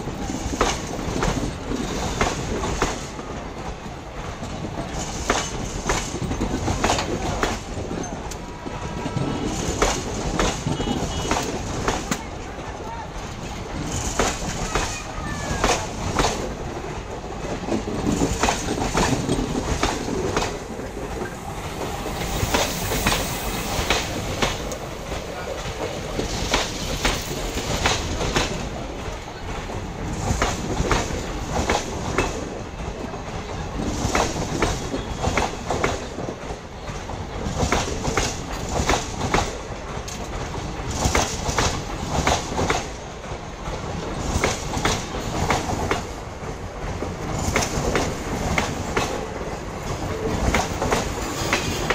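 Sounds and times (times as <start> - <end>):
train rumble: 0.0 - 51.9
train wheels clacking on rail joints: 0.0 - 51.9.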